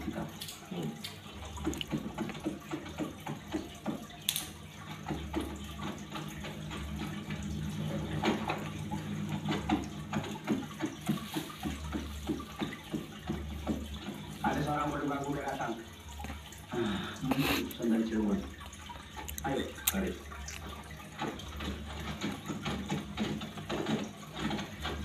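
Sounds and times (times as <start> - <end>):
water trickling and bubbling: 0.0 - 25.0.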